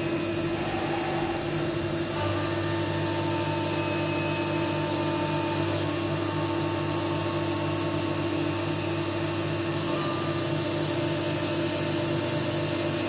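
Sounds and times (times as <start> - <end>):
milling machine cutter whine: 0.0 - 13.0.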